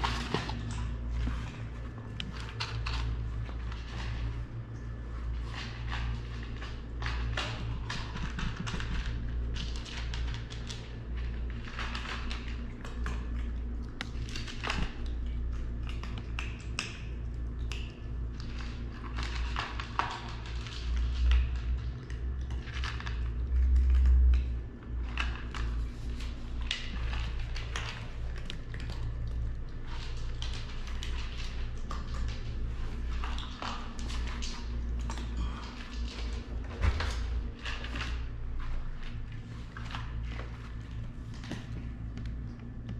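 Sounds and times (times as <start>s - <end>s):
cats crunching dry kibble: 0.0s - 42.9s
steady low hum: 0.0s - 42.9s.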